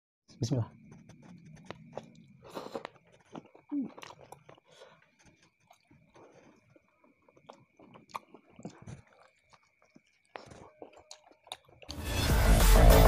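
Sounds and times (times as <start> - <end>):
wet chewing sounds: 0.7 - 12.0
small mouth clicks: 0.9 - 6.8, 7.4 - 12.0.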